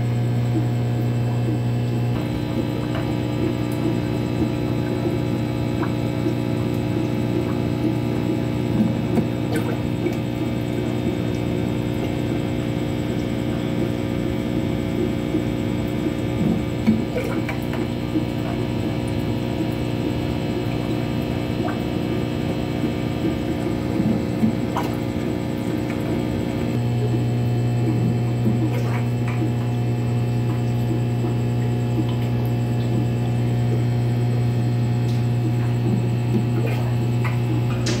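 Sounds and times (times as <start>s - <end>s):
aquarium pump electrical hum: 0.0s - 38.0s.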